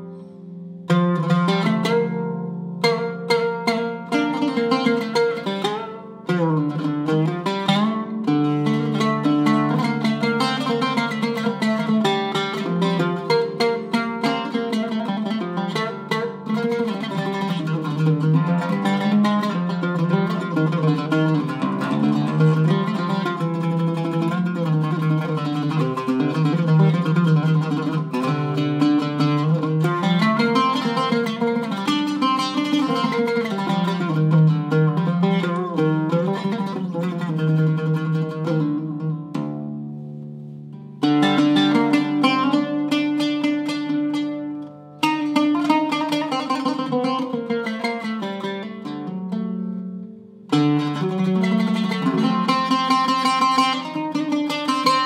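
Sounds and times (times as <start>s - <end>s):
oud played with a plectrum: 0.0s - 55.0s.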